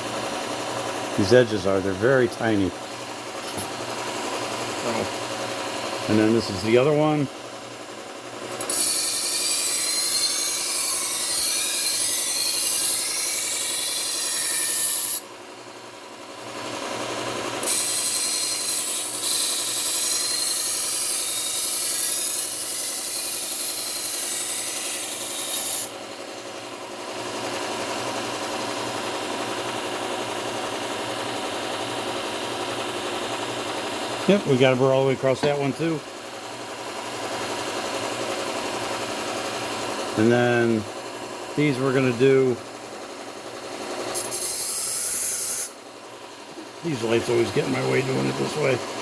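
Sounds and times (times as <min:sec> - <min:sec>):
knife grinding on belt sander: 0:00.0 - 0:07.3, 0:08.4 - 0:15.4, 0:16.5 - 0:49.0
belt sander running: 0:00.0 - 0:49.0.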